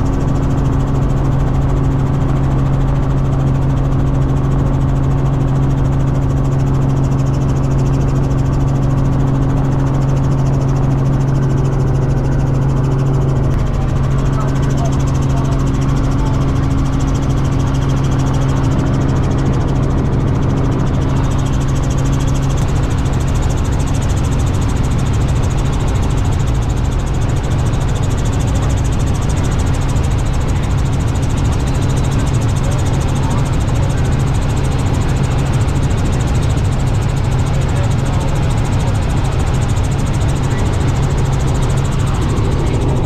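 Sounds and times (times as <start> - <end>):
helicopter drone from inside cabin: 0.0 - 43.0
low hum: 0.0 - 43.0.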